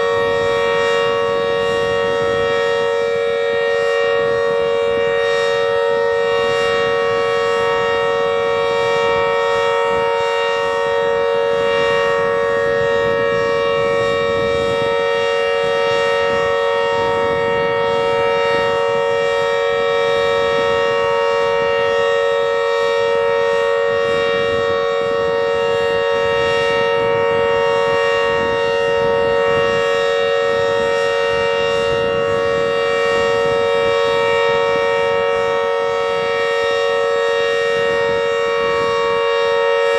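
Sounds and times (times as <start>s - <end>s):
steady alarm siren chord: 0.0s - 39.9s.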